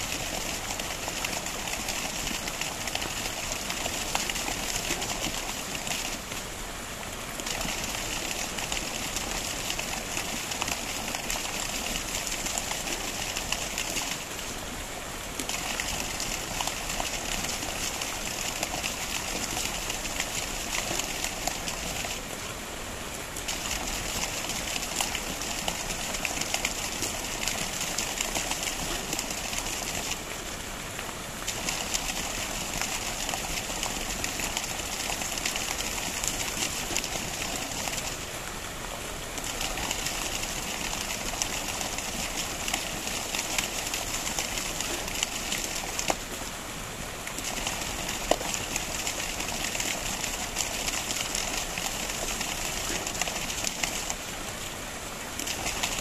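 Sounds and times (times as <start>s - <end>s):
water cascading over rocks: 0.0s - 56.0s.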